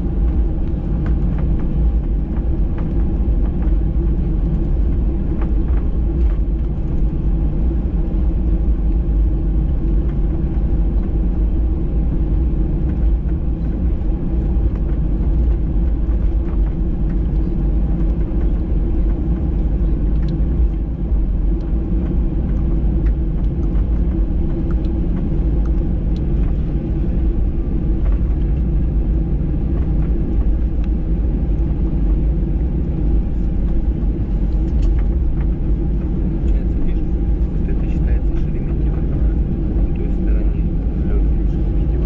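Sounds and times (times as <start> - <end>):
jet engine cabin rumble: 0.0 - 42.0
steady low hums: 0.0 - 42.0.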